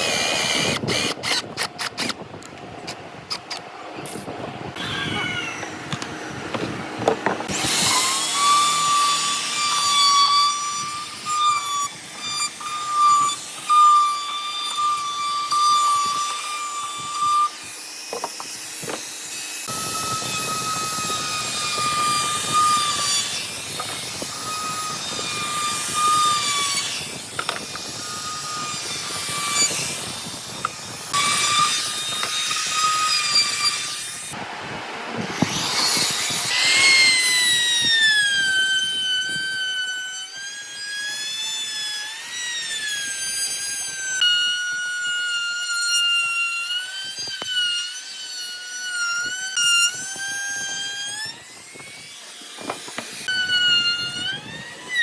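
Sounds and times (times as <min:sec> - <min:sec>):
power tool motor whining: 0:00.0 - 0:34.4, 0:35.1 - 0:55.0.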